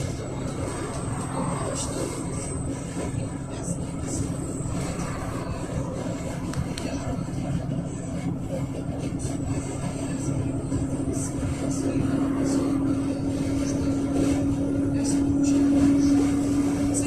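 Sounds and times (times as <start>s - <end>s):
bus engine rumble: 0.0s - 17.0s
bus engine whine: 0.0s - 17.0s.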